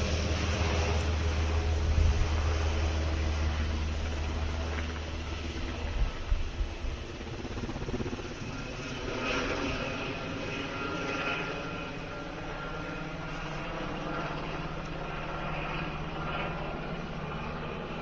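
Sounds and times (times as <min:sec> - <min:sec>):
helicopter rotor and turbine drone: 0:00.0 - 0:18.0.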